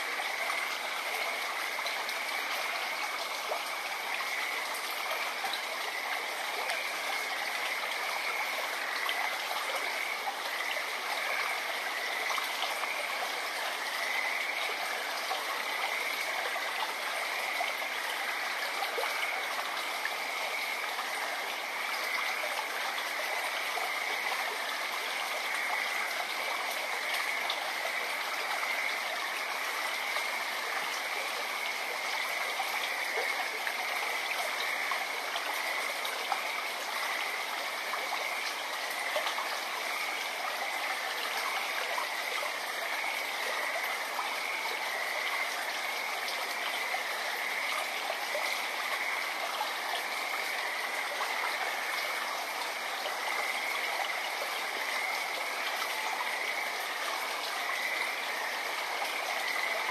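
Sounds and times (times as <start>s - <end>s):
frogs chorusing: 0.0s - 59.9s
stream babbling: 0.0s - 59.9s.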